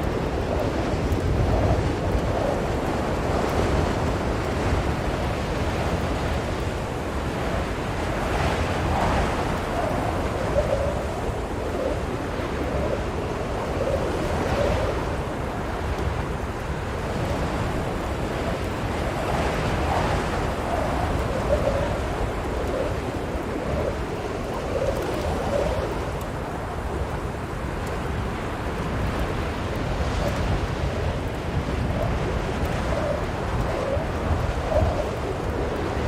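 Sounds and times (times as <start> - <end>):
blizzard wind howling: 0.0 - 36.0.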